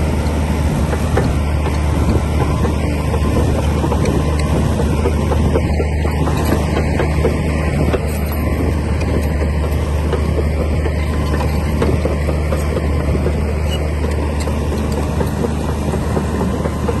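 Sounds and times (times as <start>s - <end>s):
bulldozer diesel engine droning: 0.0s - 17.0s
rattle and clatter: 0.0s - 17.0s.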